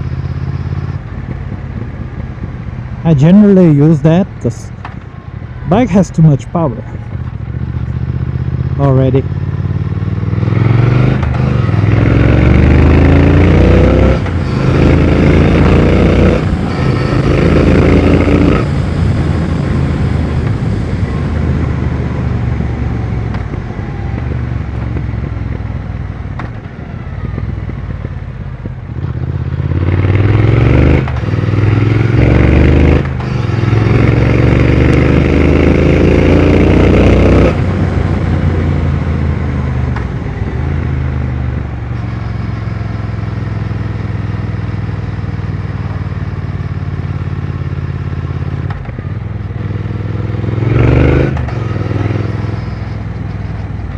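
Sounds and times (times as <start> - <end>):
motorcycle engine accelerating: 6.8 - 53.9.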